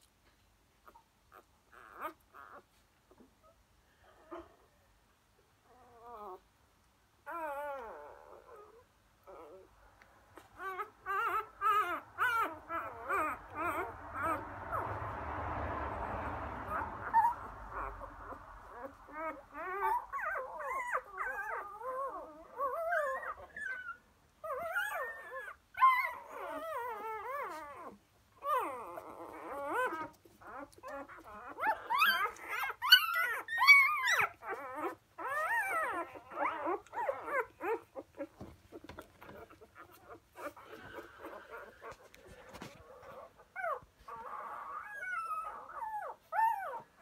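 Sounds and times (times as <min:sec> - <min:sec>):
puppies whimpering and squealing: 0:00.8 - 0:03.6, 0:07.2 - 0:47.0.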